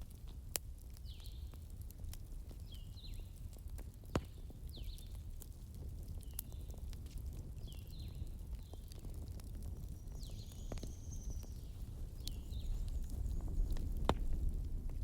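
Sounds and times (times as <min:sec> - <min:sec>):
firewood crackling and popping: 0:00.0 - 0:15.0
low fire rumble: 0:00.0 - 0:15.0.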